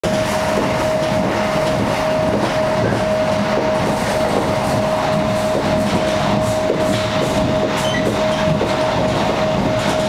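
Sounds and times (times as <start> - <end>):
constant whine: 0.0 - 10.0
train wheel and track noise: 0.0 - 10.0.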